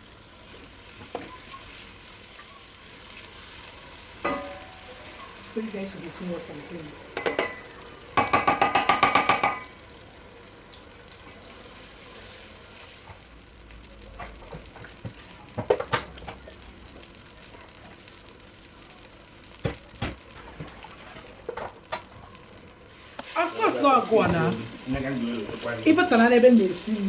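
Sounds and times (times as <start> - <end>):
sauce sizzling in oil: 0.0 - 27.0.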